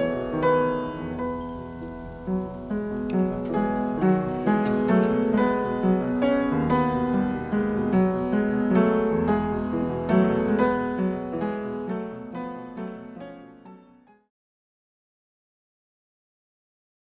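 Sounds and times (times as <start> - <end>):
slow classical piano: 0.0 - 14.3.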